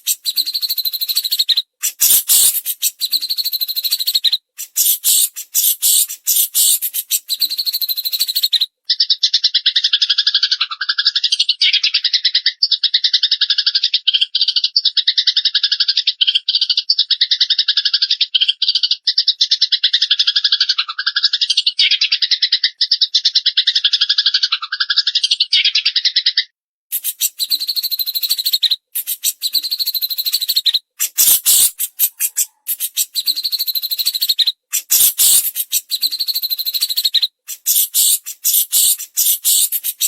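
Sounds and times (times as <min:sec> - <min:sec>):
bird chattering and trilling: 0:00.0 - 0:40.0.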